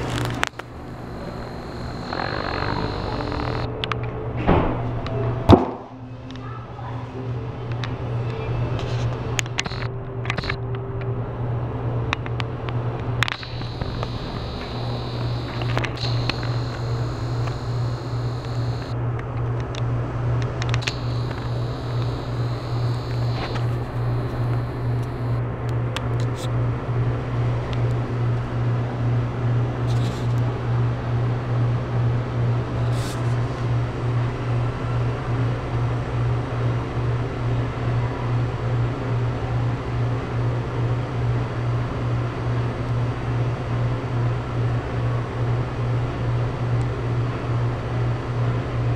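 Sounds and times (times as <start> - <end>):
exhaust fan motor hum: 0.0 - 5.5, 6.1 - 48.9.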